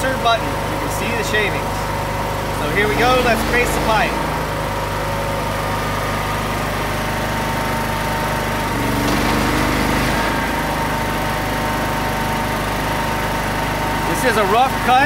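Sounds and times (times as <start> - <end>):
electric facer drone: 1.6 - 13.9.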